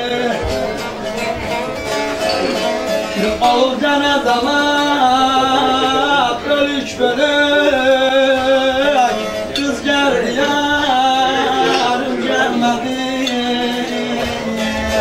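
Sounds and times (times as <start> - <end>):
man singing long ornamented notes: 0.0 - 0.9, 3.0 - 15.0
long-necked lute folk melody: 0.0 - 15.0.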